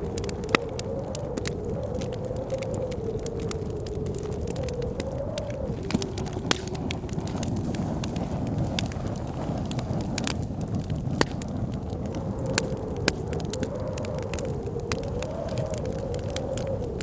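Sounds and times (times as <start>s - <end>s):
blizzard wind roaring: 0.0s - 17.0s
wind howling: 0.0s - 17.0s
wood fire crackling and popping: 0.0s - 17.0s.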